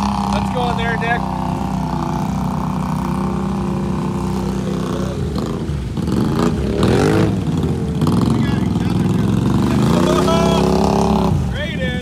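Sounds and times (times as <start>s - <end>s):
atv engines revving: 0.0s - 12.0s.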